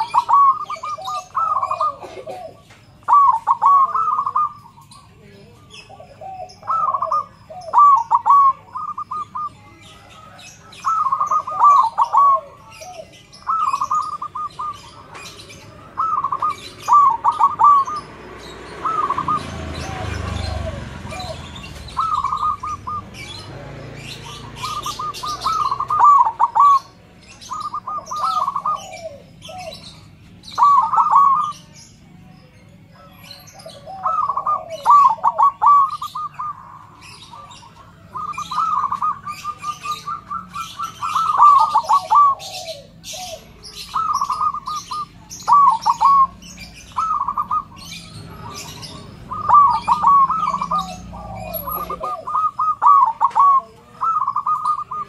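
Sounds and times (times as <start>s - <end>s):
dove cooing: 0.0s - 31.9s, 32.9s - 55.0s
small birds chirping: 0.0s - 55.0s.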